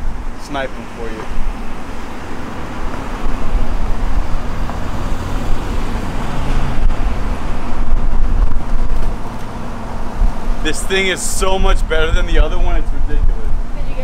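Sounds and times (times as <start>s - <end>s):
road traffic going by: 0.0s - 14.0s
wind rumbling on microphone: 0.0s - 14.0s.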